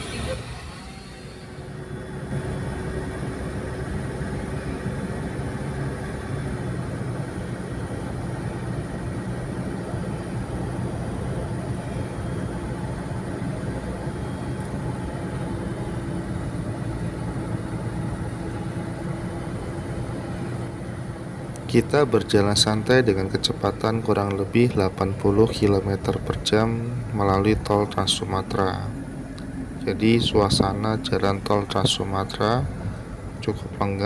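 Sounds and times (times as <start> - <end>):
car cabin road drone: 0.0 - 34.0.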